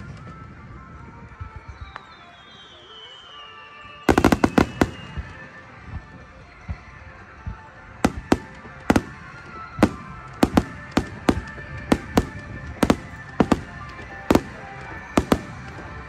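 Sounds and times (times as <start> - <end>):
fireworks bursting with sharp bangs: 0.0 - 16.0
music playing: 0.0 - 16.0.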